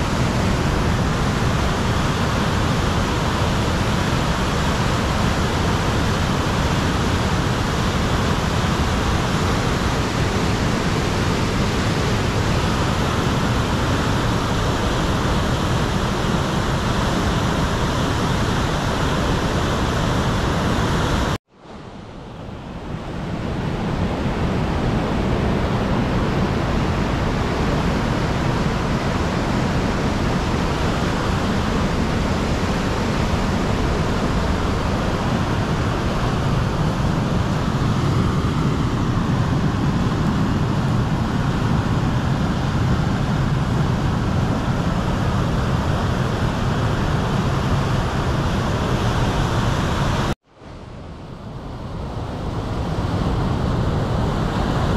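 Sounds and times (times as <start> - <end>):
river rushing over rapids: 0.0 - 54.9.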